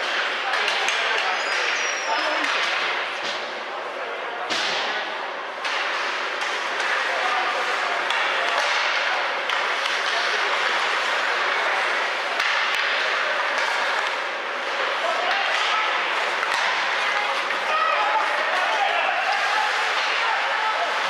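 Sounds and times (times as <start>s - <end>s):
hockey sticks and puck clacking: 0.0s - 3.6s, 4.4s - 21.0s
murmur of spectators: 0.0s - 21.0s.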